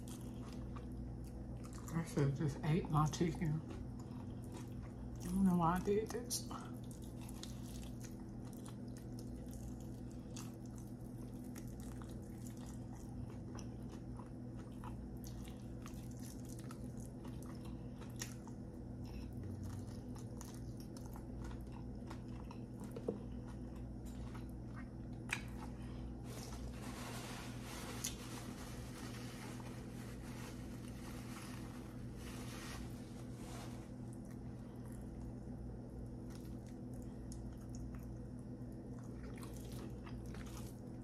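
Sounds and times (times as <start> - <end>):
chewing crunchy food: 0.0 - 41.0
low steady hum: 0.0 - 41.0.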